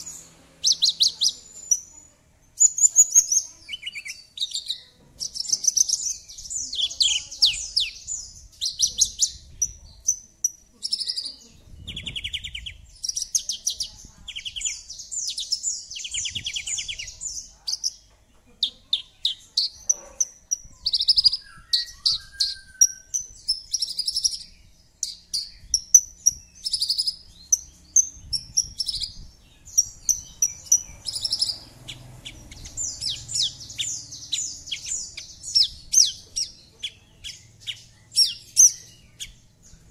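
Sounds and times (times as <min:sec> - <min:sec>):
bush lark singing: 0:00.0 - 0:18.1, 0:18.9 - 0:39.9.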